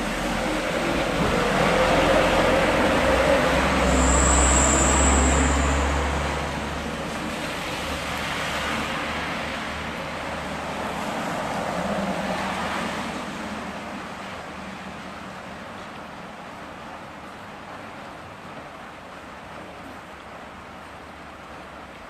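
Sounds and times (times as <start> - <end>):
steady traffic noise: 0.0 - 22.0.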